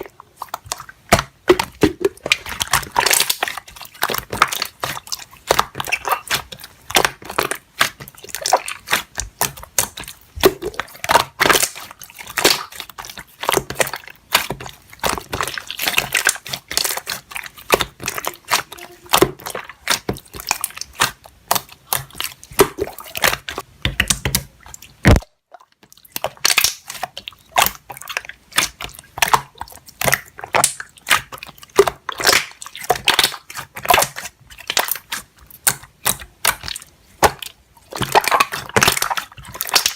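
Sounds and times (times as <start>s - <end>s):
slime squelching by hand: 0.0s - 39.9s.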